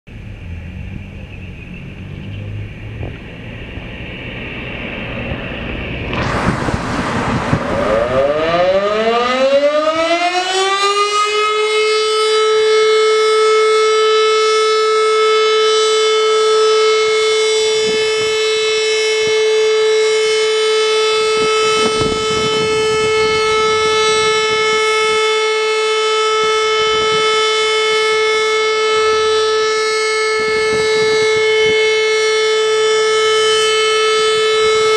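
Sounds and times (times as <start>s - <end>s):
siren winding up: 3.4s - 34.9s.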